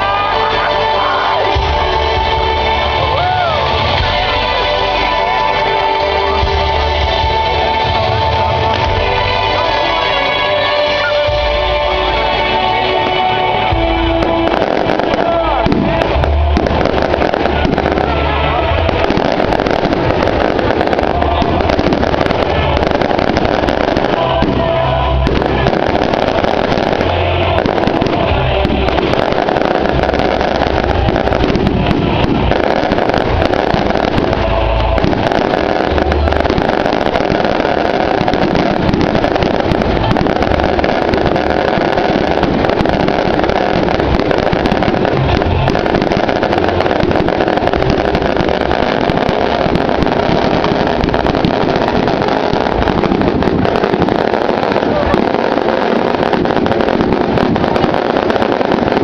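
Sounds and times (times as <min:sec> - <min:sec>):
fireworks crackling and popping: 0:00.0 - 0:59.0
music: 0:00.0 - 0:59.0
voices: 0:00.0 - 0:59.0.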